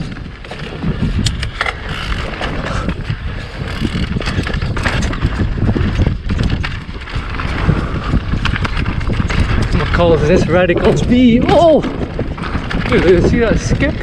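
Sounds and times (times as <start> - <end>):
bike clicks and rattles: 0.0 - 14.0
tyres rumbling on dirt: 0.0 - 14.0
wind on microphone: 0.0 - 14.0.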